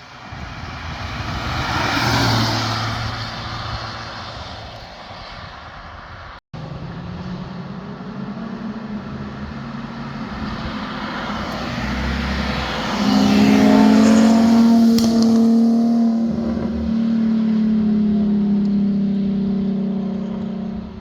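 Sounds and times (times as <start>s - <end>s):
car engine and exhaust: 0.0s - 21.0s.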